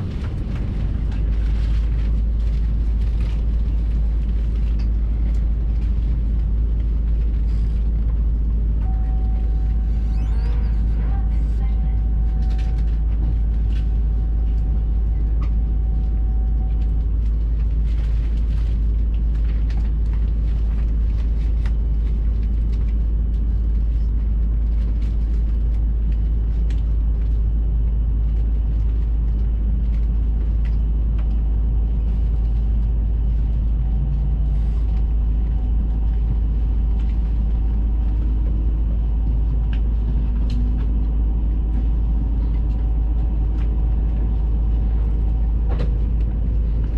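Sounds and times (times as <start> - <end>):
train low rumble inside cabin: 0.0 - 46.9.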